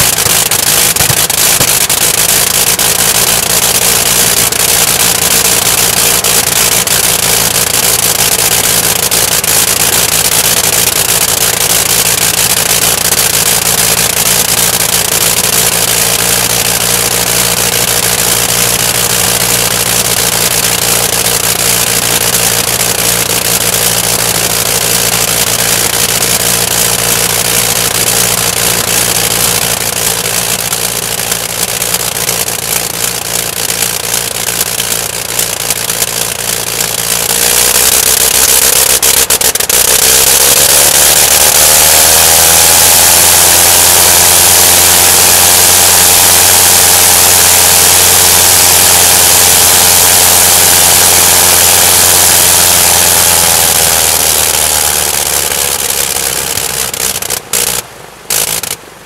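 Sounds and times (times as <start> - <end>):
rotary aircraft engine running: 0.0 - 59.0.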